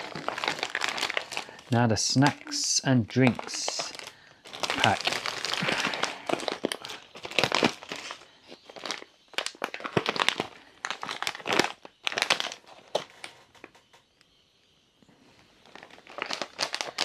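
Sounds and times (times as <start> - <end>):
plastic packaging crinkling: 0.0 - 13.9, 15.6 - 17.0.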